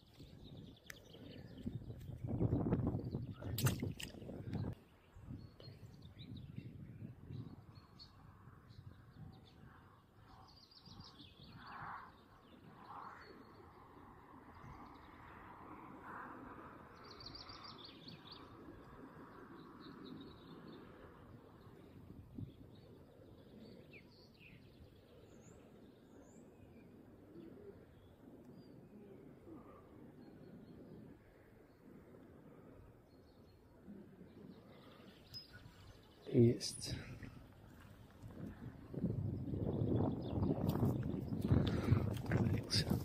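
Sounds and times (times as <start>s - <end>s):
faint outdoor background noise: 0.0s - 43.0s
songbird trill: 0.0s - 43.0s.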